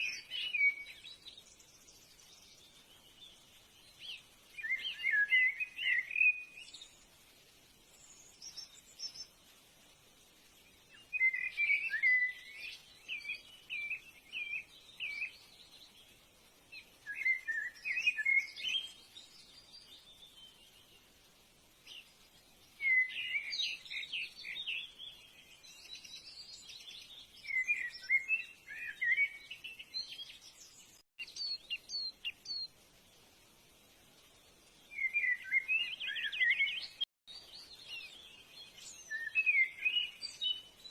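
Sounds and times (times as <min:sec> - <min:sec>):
birds chirping and warbling: 0:00.0 - 0:40.9.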